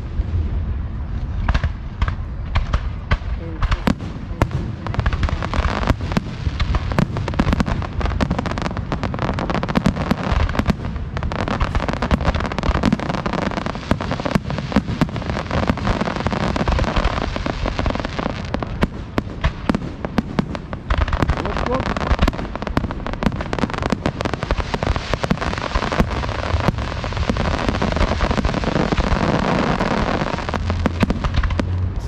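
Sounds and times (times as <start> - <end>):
fireworks booming and crackling: 0.0 - 32.0.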